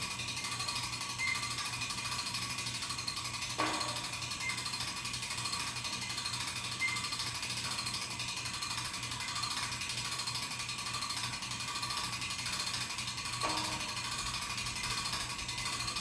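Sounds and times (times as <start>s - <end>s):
rapid ratchet clicking: 0.0s - 16.0s.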